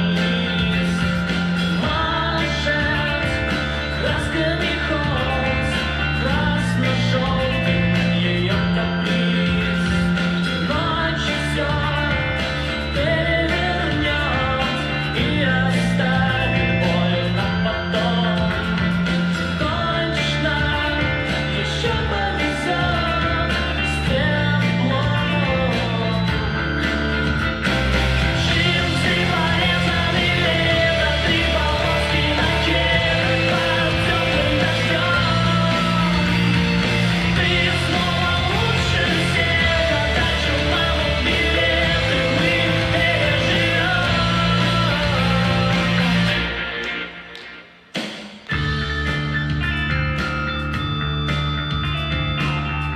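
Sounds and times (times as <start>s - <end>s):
rock music with singing and guitar: 0.0s - 52.9s.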